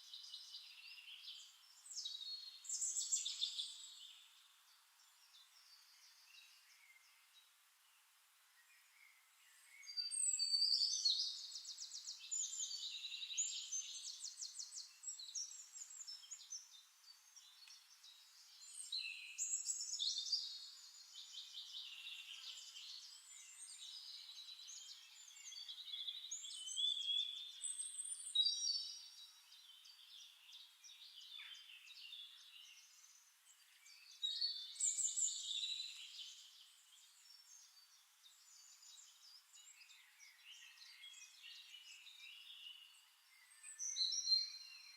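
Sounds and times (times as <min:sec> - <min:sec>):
songbirds trilling and chirping: 0:00.0 - 0:44.9.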